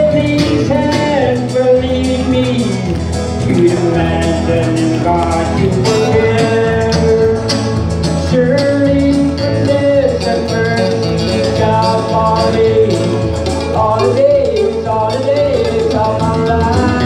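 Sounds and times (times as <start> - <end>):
live band playing country-rock: 0.0 - 17.0
steady drum beat: 0.0 - 17.0
walking bass line: 0.0 - 17.0.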